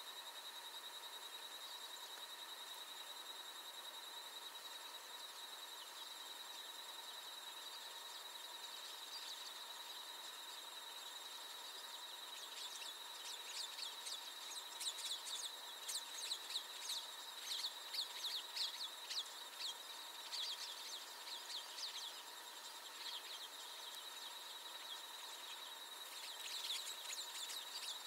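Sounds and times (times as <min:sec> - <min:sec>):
faint high whine: 0:00.0 - 0:28.0.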